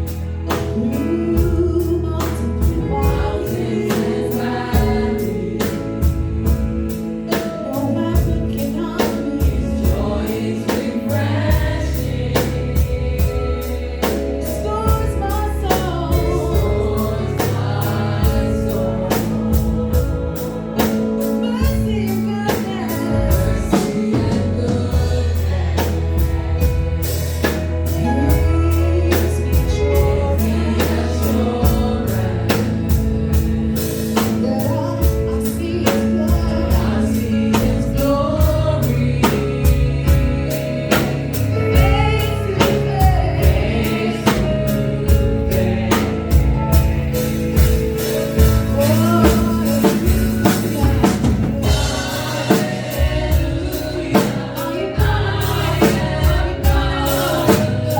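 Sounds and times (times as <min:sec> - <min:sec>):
drums bass and keyboard playing: 0:00.0 - 0:57.9
people singing gospel: 0:00.0 - 0:57.9.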